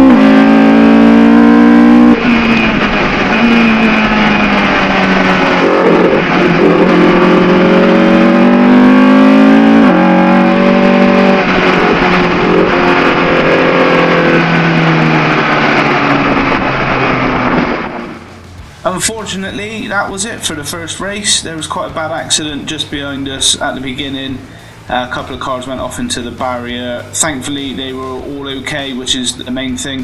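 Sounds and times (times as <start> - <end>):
race car engine at full throttle: 0.0 - 30.0.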